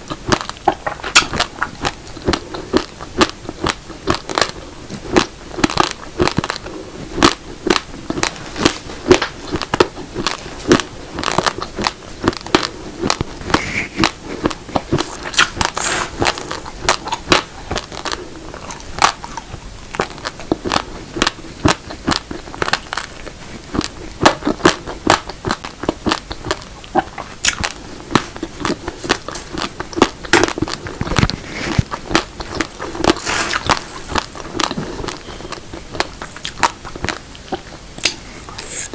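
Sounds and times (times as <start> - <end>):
chewing crunchy raw rice: 0.0 - 38.9.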